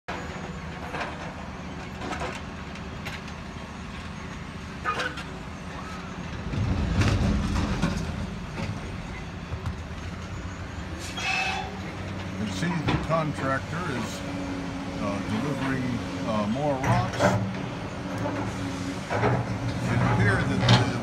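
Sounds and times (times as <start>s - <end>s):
diesel engines of heavy machinery: 0.1s - 21.0s.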